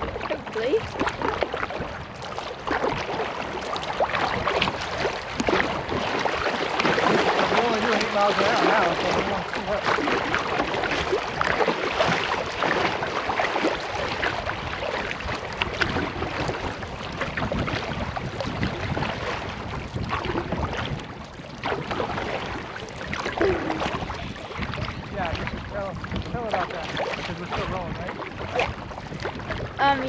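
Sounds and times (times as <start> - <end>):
paddles splashing in water: 0.0 - 30.0
water rushing along hull: 0.0 - 30.0
wind on microphone: 0.0 - 30.0.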